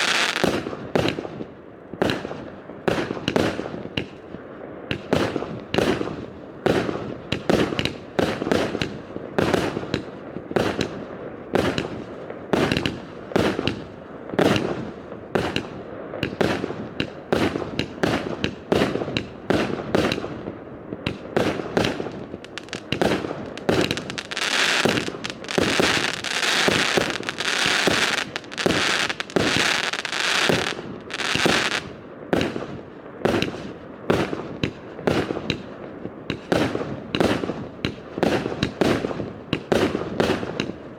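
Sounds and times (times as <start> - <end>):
fireworks shots: 0.0 - 4.2, 4.8 - 40.9.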